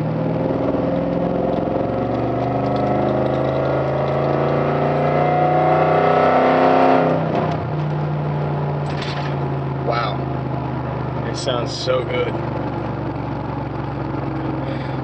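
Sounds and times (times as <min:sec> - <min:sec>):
truck exhaust accelerating: 0:00.0 - 0:15.0.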